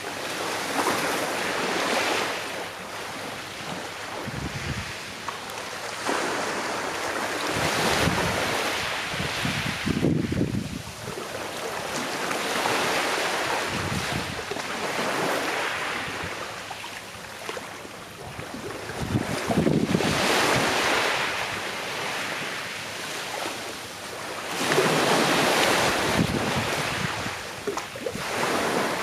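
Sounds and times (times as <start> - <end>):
small sea waves washing ashore: 0.0 - 29.0.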